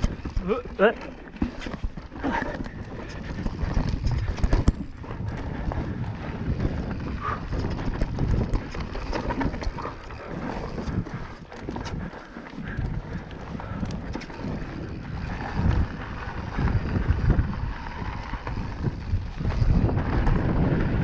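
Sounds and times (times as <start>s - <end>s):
bike rattling and knocking: 0.0s - 21.0s
bike tyre rumble: 0.0s - 21.0s.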